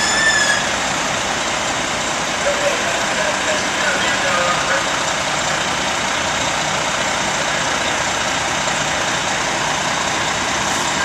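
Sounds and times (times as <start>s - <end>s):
diesel engine pumping water: 0.0s - 11.0s.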